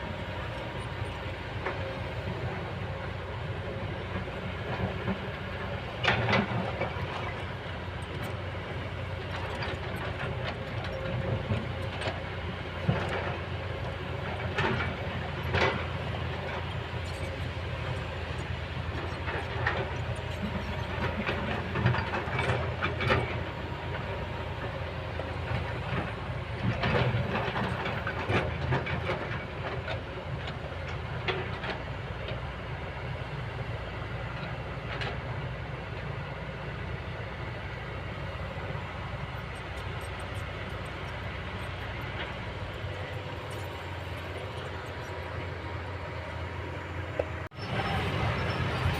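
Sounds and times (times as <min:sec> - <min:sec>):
excavator diesel engine running: 0:00.0 - 0:48.9
machinery clanks and scrapes: 0:03.7 - 0:32.4, 0:38.3 - 0:48.9.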